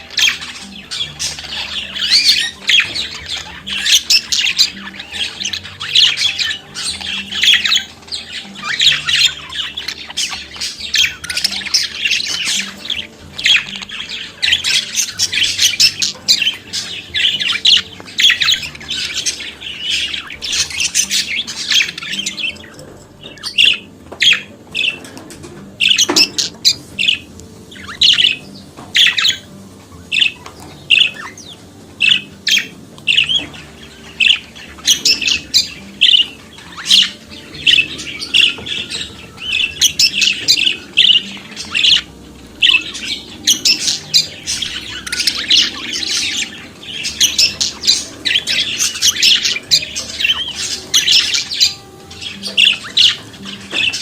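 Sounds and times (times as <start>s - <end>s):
budgerigar warbling and chirping: 0.0s - 54.0s.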